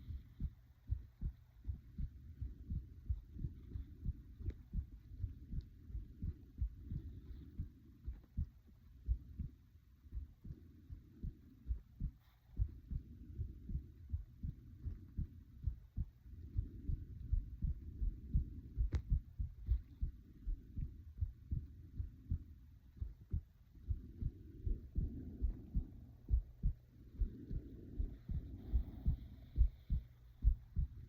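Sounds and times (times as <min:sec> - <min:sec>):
heartbeat thumps: 0:00.0 - 0:31.0
soft breathing: 0:00.0 - 0:31.0.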